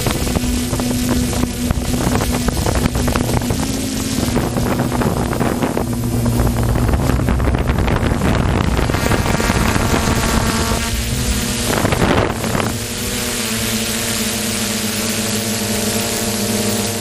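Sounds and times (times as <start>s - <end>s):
watercraft engines droning: 0.0s - 17.0s
wind buffeting microphone: 0.0s - 17.0s.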